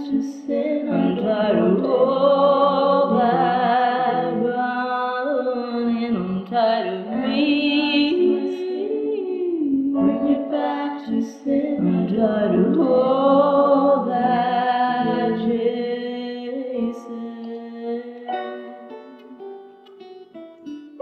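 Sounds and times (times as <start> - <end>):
woman singing with vibrato: 0.0 - 18.6.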